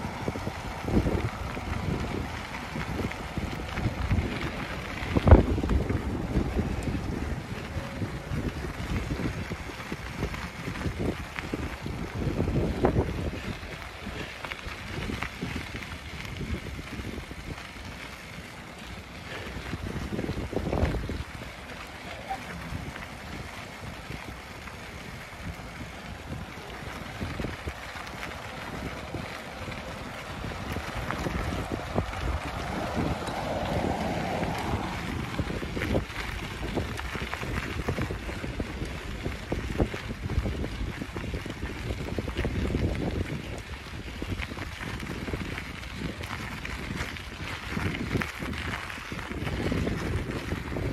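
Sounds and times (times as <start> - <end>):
wind buffeting the microphone: 0.0 - 50.9.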